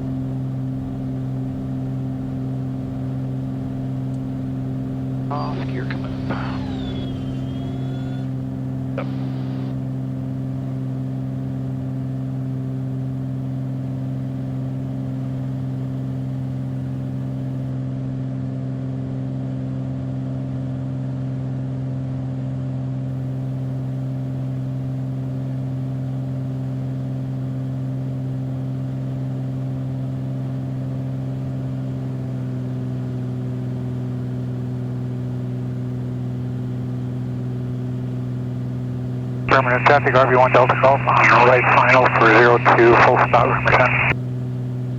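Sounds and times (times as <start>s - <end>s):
propeller plane engine droning: 0.0s - 17.7s, 23.2s - 44.9s.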